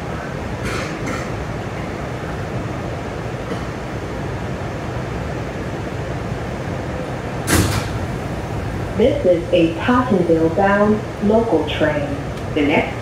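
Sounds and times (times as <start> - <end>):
subway car rumble and hum: 0.0 - 13.0.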